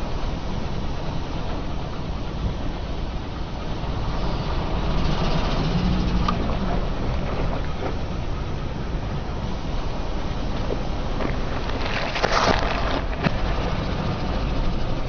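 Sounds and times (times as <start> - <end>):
car engine running: 0.0 - 15.0
tyres rolling slowly: 0.0 - 15.0.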